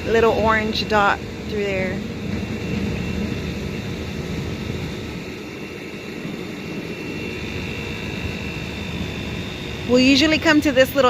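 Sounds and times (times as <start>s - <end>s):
small boat motor rumbling: 0.0s - 11.0s.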